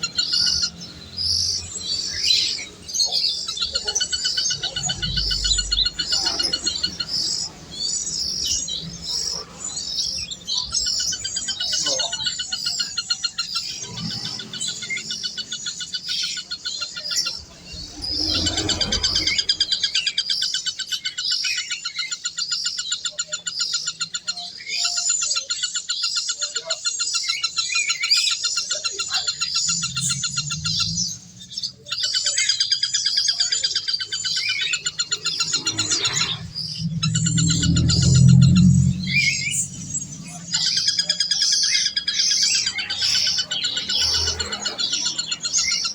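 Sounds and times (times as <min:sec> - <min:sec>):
birds chirping rapid high notes: 0:00.0 - 0:26.0, 0:26.7 - 0:45.9.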